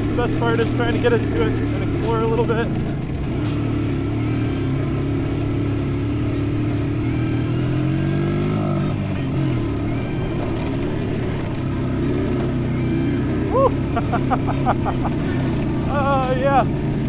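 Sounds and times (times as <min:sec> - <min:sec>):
small quad engine under load: 0:00.0 - 0:17.0.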